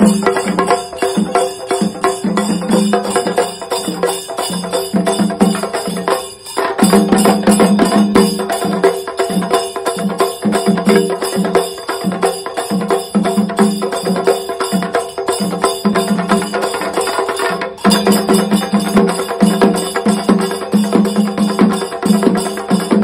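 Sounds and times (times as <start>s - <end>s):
drums beaten in fast rolls: 0.0s - 23.0s.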